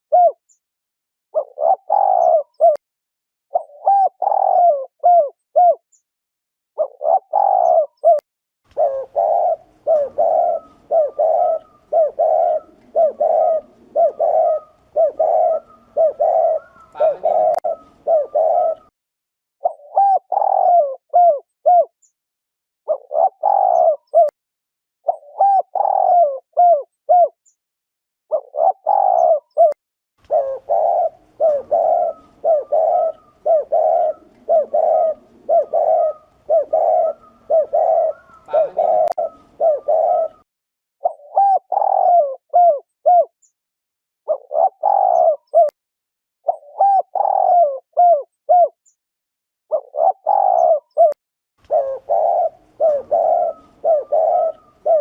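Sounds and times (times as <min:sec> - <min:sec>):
dove cooing: 0:00.1 - 0:00.4, 0:01.4 - 0:02.8, 0:03.5 - 0:05.8, 0:06.8 - 0:18.9, 0:19.6 - 0:21.9, 0:22.9 - 0:24.3, 0:25.1 - 0:27.3, 0:28.3 - 0:40.4, 0:41.0 - 0:43.3, 0:44.3 - 0:45.8, 0:46.5 - 0:48.8, 0:49.7 - 0:55.0.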